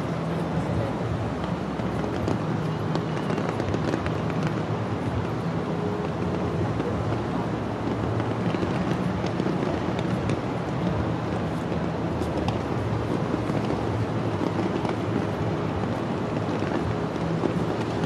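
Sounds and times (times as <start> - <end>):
crowd noise: 0.0 - 18.0
distant fireworks crackling: 0.0 - 18.0
traffic hum: 0.0 - 18.0.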